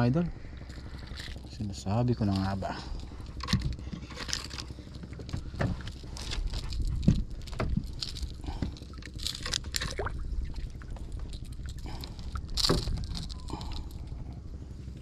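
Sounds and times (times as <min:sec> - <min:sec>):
rumble of wind and water: 0:00.0 - 0:15.0.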